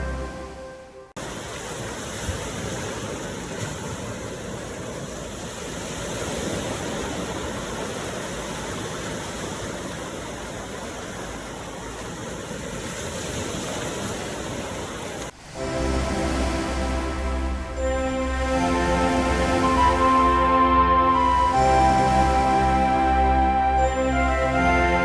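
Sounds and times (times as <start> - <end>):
ocean surf rushing: 0.0 - 25.0.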